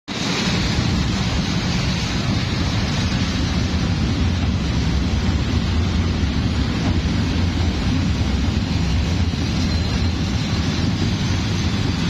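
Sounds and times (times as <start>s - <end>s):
train passing rumble: 0.1s - 12.0s.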